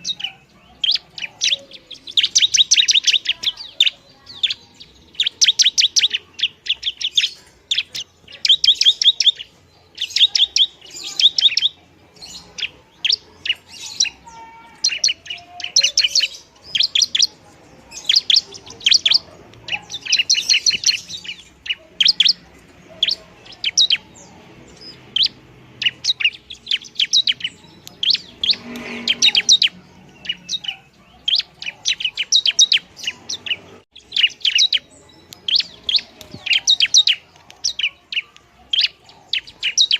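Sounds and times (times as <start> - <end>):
bird chipping song: 0.0 - 39.9.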